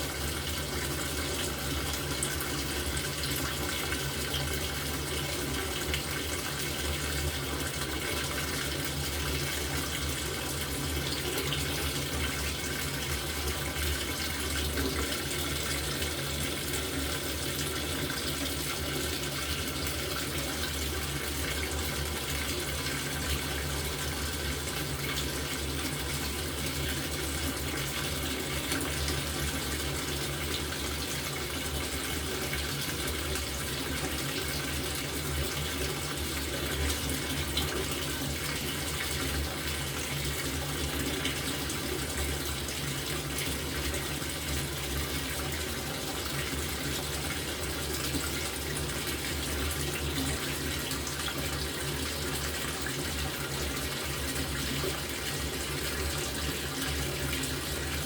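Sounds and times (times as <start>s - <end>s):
water pouring into washing machine: 0.0s - 58.0s.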